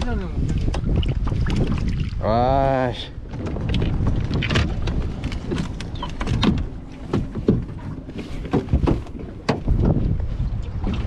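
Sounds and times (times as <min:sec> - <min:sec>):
gear knocking and clattering on boat deck: 0:00.0 - 0:02.2, 0:03.2 - 0:11.0.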